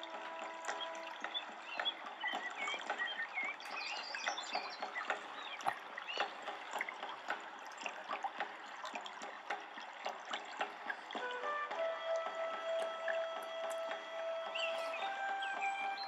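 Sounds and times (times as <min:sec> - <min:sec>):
trickling water: 0:00.0 - 0:16.0.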